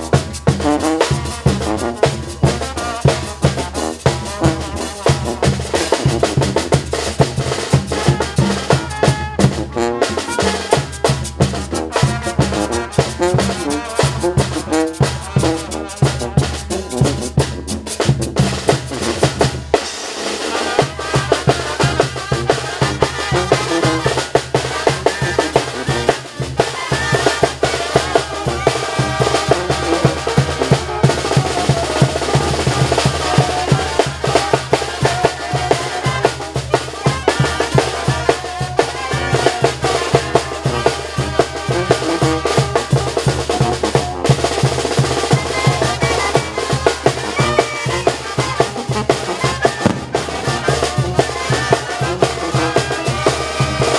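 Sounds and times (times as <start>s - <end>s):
brass band playing live: 0.0s - 53.9s
snare and bass drum beat: 0.0s - 53.9s.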